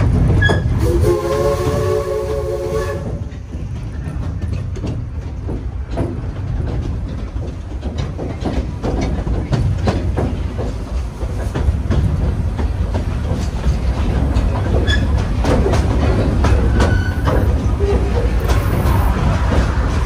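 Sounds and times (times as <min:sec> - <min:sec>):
train running gear rumble: 0:00.0 - 0:20.0
wheels clacking over rail joints: 0:00.0 - 0:20.0.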